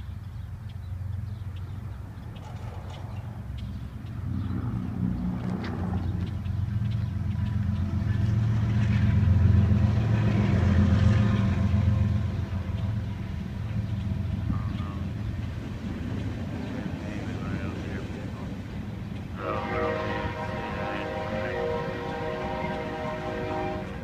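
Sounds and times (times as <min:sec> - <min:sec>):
diesel locomotive engine rumble: 0:00.0 - 0:24.0.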